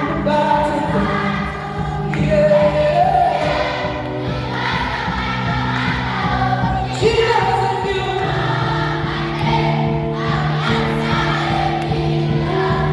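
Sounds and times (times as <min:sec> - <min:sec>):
choir singing: 0:00.0 - 0:12.9.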